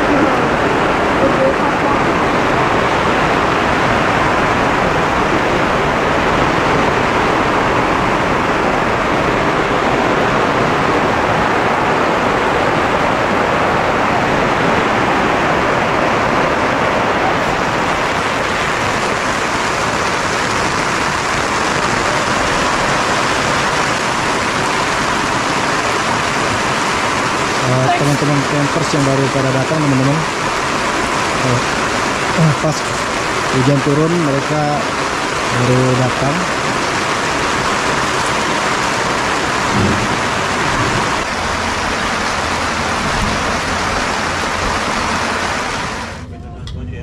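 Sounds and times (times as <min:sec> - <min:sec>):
heavy rain falling: 0:00.0 - 0:46.3.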